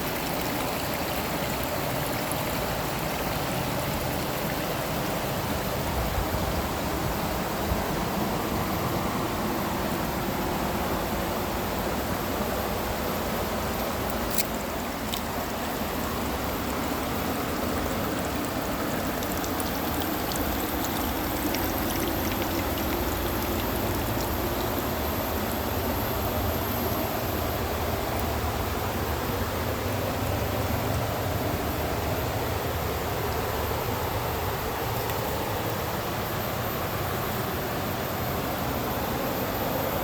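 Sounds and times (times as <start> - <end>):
water flowing over rocks: 0.0 - 8.6, 12.8 - 39.6.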